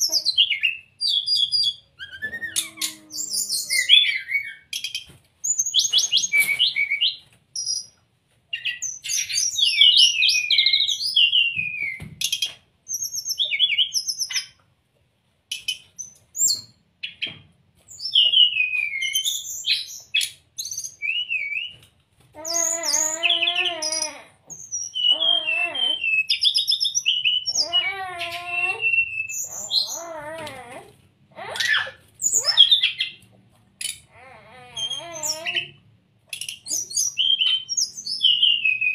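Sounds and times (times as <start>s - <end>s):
bird singing high chirps and whistles: 0.0s - 7.9s, 8.5s - 14.6s, 17.9s - 21.8s, 22.4s - 30.2s, 31.6s - 33.2s, 34.6s - 38.9s.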